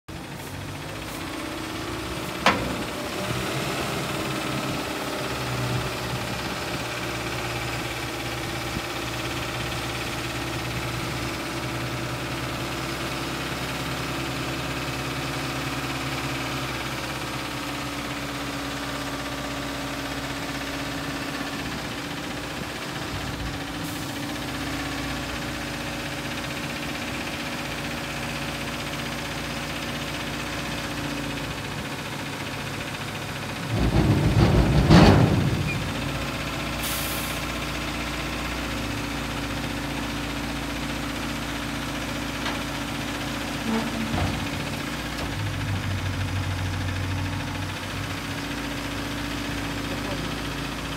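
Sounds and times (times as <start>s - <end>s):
diesel truck engine running: 0.1s - 50.9s.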